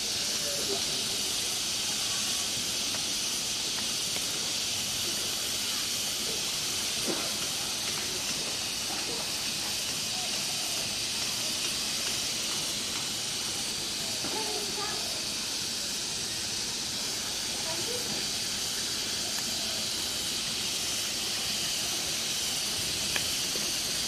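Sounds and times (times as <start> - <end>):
meat skewers sizzling on a grill: 0.0 - 24.0.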